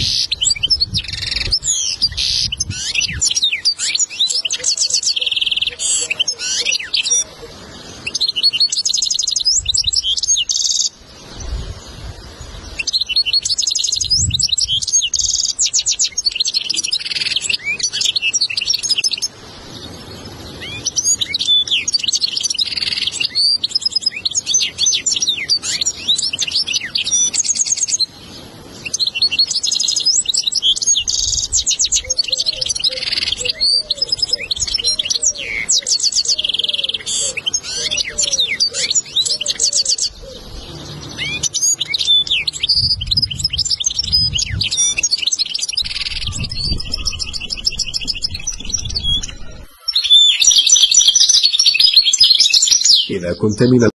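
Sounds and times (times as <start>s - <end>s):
goldfinch singing twittering trills: 0.0s - 53.9s.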